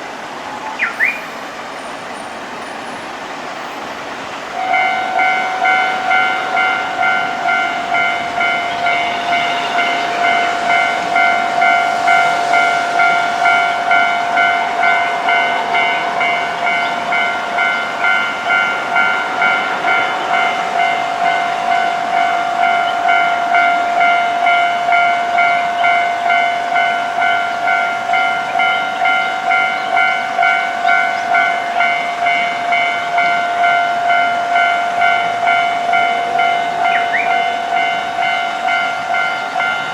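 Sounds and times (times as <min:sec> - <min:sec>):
level-crossing alarm ringing: 0:00.6 - 0:39.9.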